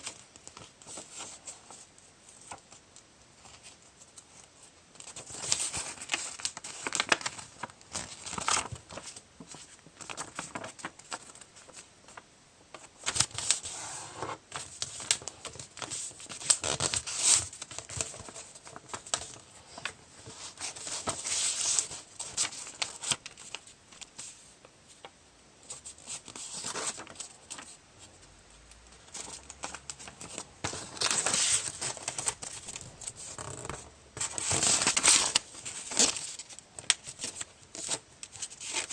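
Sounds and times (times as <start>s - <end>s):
paper rustling and crinkling: 0.0s - 2.8s, 3.4s - 28.2s, 28.8s - 38.9s.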